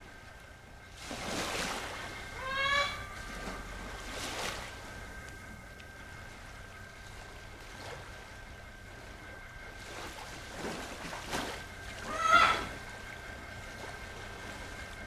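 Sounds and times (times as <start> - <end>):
water waves lapping: 0.0 - 15.0.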